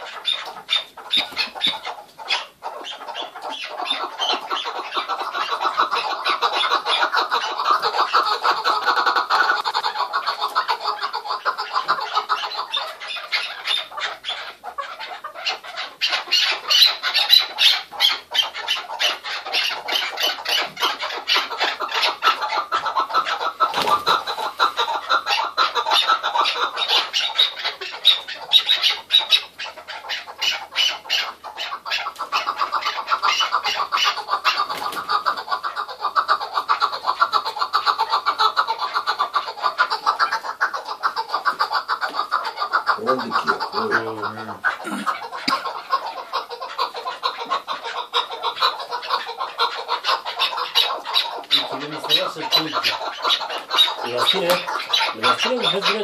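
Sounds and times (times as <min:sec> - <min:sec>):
partridges chattering chuck calls: 0:00.0 - 0:56.0.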